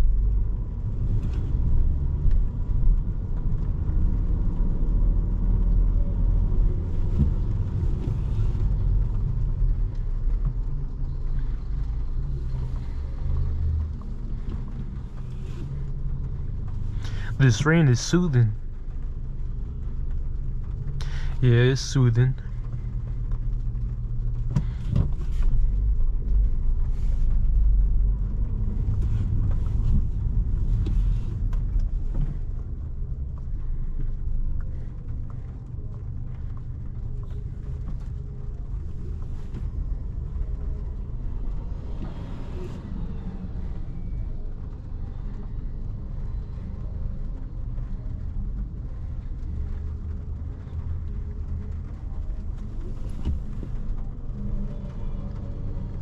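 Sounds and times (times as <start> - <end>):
car engine and road noise: 0.0 - 56.0
light rain: 0.0 - 56.0.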